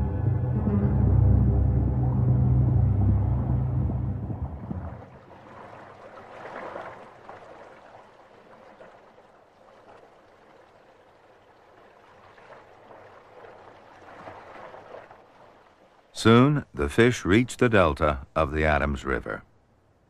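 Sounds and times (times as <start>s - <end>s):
faint gurgling water: 0.0s - 20.0s.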